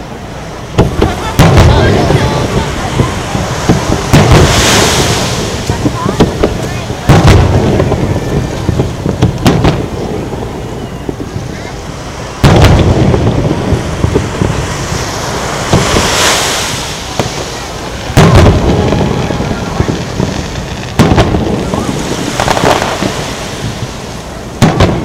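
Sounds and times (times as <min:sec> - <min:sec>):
crackling hissing sparkle: 0:00.0 - 0:25.0
firework booms: 0:00.0 - 0:25.0
firework pops: 0:00.8 - 0:10.2, 0:12.4 - 0:24.0, 0:24.6 - 0:25.0.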